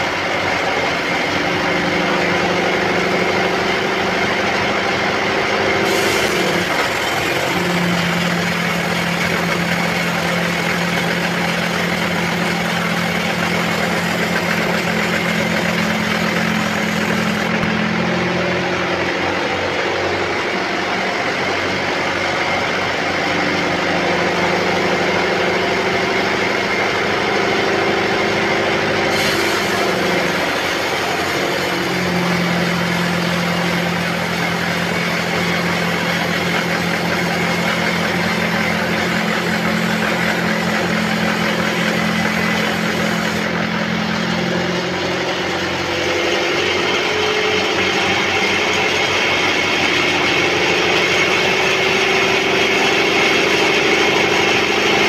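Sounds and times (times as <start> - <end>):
band saw cutting a log: 0.0 - 55.0.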